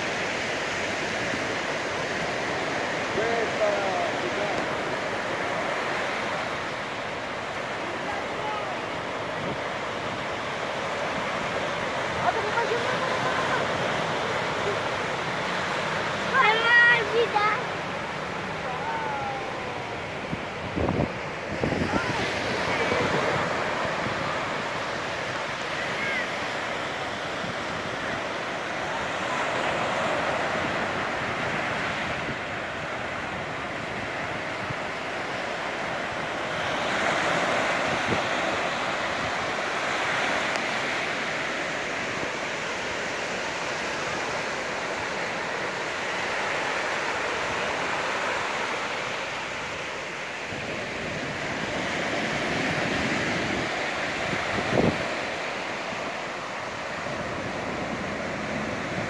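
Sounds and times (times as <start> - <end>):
waves washing on beach: 0.0 - 59.0.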